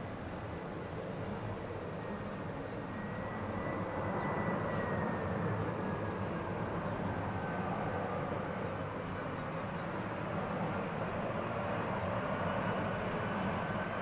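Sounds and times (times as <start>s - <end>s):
faint high engine whine: 0.0s - 14.0s
jet airliner engine noise: 0.0s - 14.0s.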